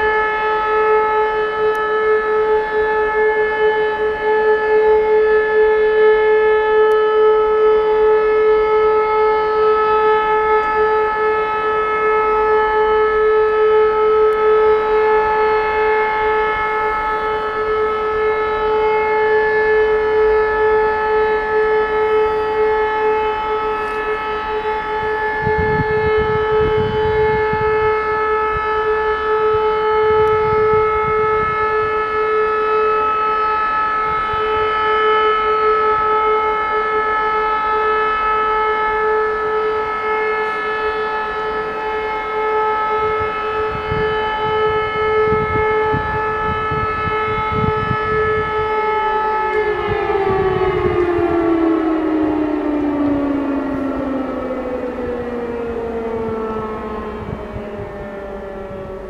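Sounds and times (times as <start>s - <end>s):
sirens steady tone: 0.0s - 59.0s.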